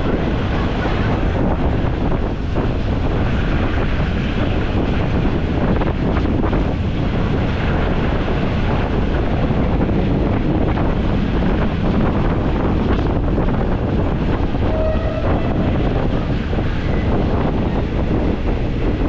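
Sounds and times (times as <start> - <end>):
passenger train running: 0.0 - 19.0
wind on microphone: 0.0 - 19.0.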